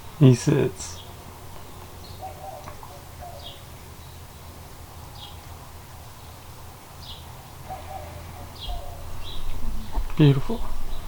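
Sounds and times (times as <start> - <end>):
faint bird chirps: 0.0 - 11.0
steady low hum: 0.0 - 11.0.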